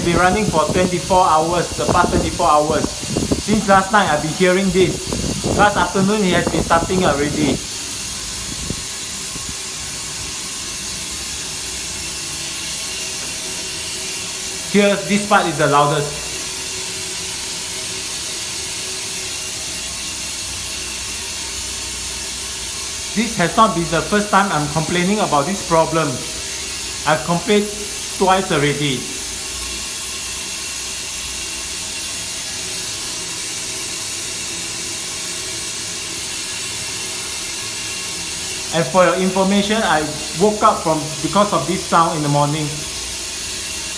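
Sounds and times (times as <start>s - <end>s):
water running: 0.0s - 17.4s, 21.8s - 30.5s, 34.4s - 43.9s.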